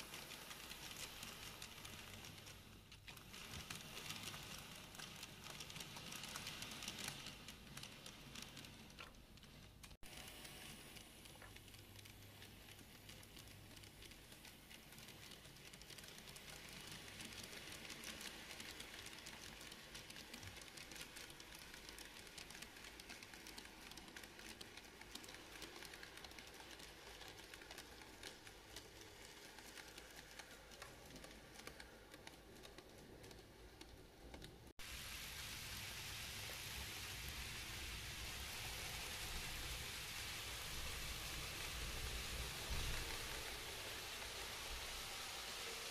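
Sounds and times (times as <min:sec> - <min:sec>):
model train wheels clicking: 0:00.0 - 0:45.9.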